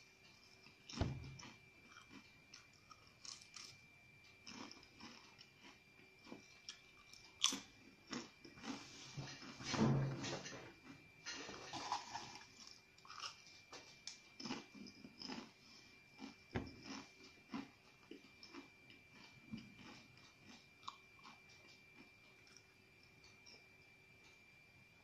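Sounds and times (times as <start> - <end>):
faint steady high tone: 0.0 - 25.0
chips being chewed: 0.6 - 3.8, 4.4 - 9.5, 10.8 - 23.6.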